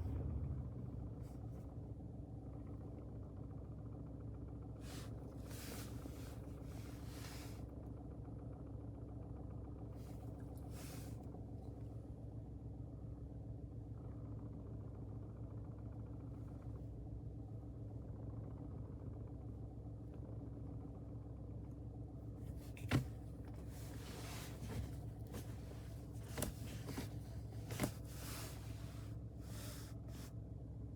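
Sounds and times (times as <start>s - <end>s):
car engine idling with rattle: 0.0s - 30.9s.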